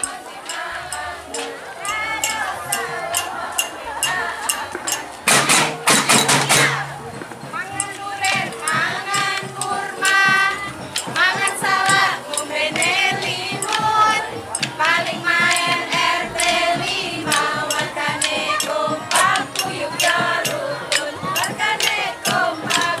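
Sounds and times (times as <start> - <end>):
steady percussion beat: 0.0 - 23.0
voices singing with vibrato: 0.0 - 23.0.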